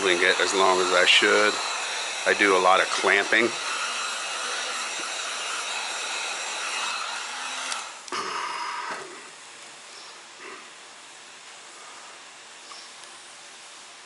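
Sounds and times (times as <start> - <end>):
heat gun fan blowing: 0.0 - 13.9.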